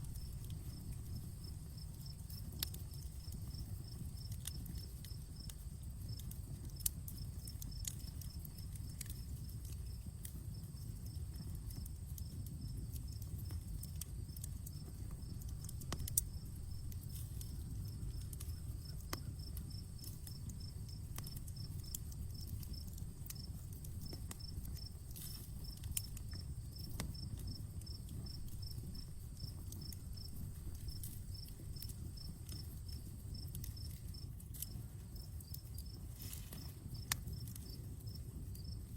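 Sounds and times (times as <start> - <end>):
campfire crackling and popping: 0.0 - 38.9
insects chirping: 0.0 - 38.9.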